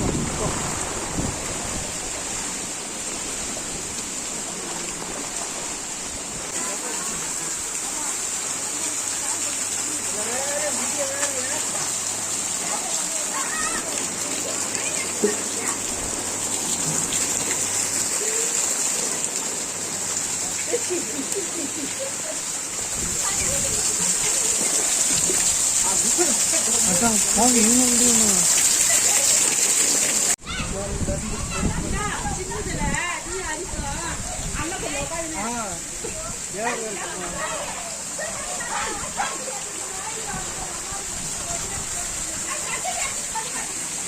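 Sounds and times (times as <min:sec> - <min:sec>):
heavy rain falling: 0:00.0 - 0:44.0
rushing floodwater: 0:00.0 - 0:44.0.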